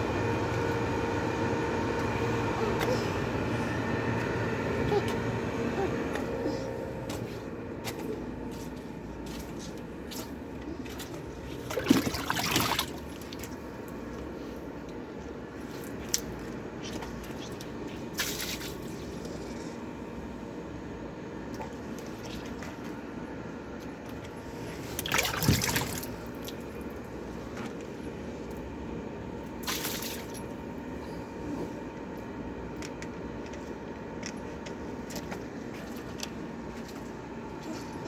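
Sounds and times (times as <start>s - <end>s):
water sloshing in washing machine: 0.0s - 32.6s, 33.3s - 38.0s.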